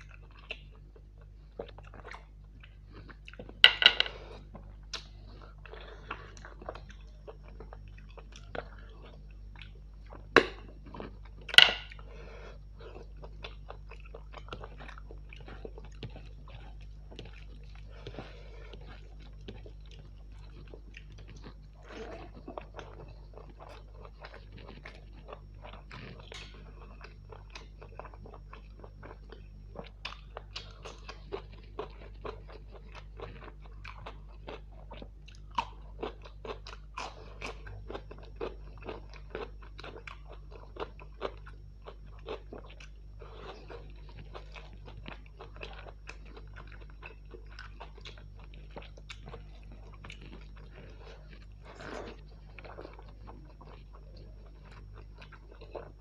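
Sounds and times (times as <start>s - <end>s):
chewing and crunching food: 0.0s - 56.0s
steady low hum: 0.0s - 56.0s.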